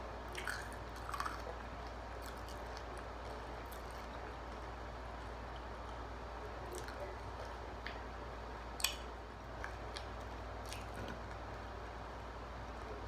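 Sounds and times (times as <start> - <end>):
steady low hum: 0.0 - 13.0
faint chewing: 0.2 - 8.2, 8.8 - 12.0.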